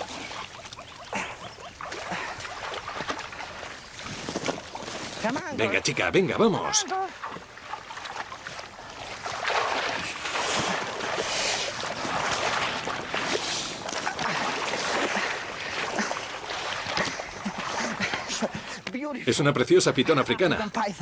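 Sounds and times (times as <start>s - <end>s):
muddy water splashing: 0.0s - 21.0s.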